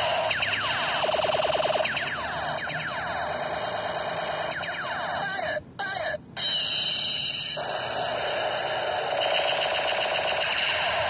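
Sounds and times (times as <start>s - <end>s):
warbling electronic toy gun tone: 0.0s - 11.0s.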